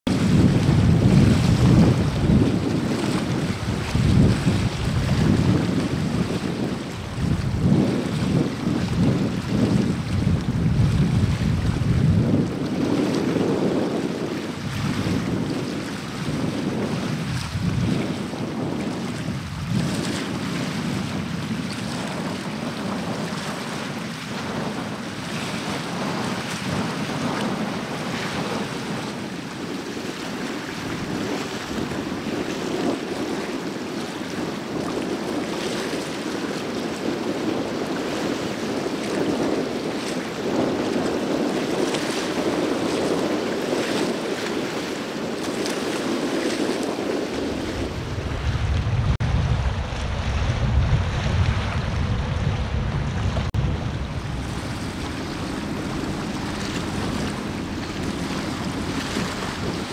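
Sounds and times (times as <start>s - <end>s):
wind: 0.0s - 59.9s
sea noise: 0.1s - 59.9s
wind buffeting microphone: 0.1s - 59.9s.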